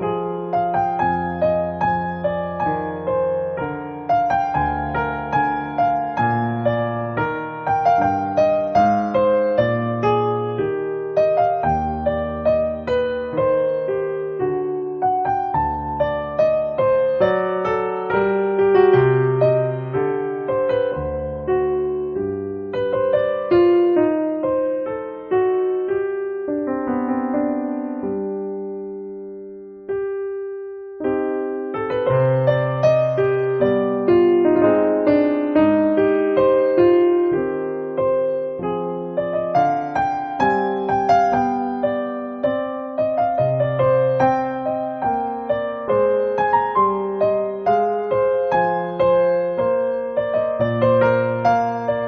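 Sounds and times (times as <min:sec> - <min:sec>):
piano-toned keyboard chords: 0:00.0 - 0:52.0.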